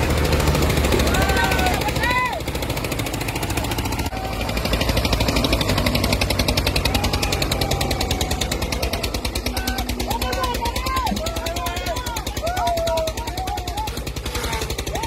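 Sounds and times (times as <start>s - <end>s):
tractor engines chugging under load: 0.0s - 15.0s.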